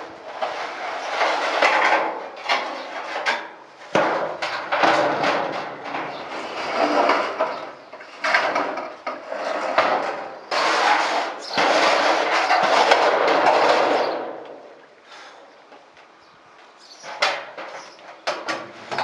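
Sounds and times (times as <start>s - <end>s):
metal roofing sheet scraping: 0.0s - 15.4s, 17.0s - 19.0s.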